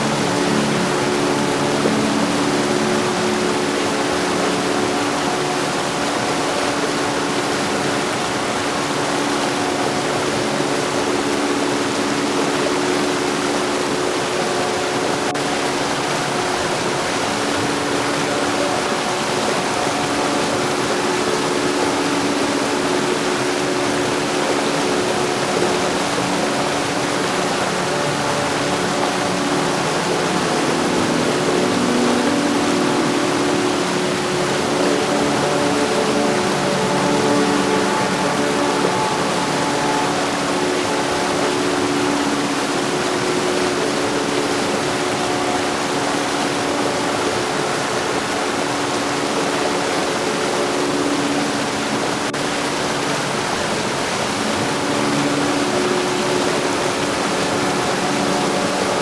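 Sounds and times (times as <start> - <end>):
faint steady tones: 0.0 - 59.0
heavy rain falling: 0.0 - 59.0.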